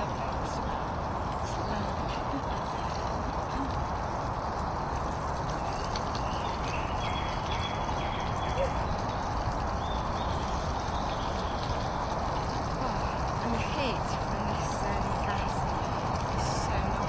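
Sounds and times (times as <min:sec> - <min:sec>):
faint frying crackle: 0:00.0 - 0:17.0.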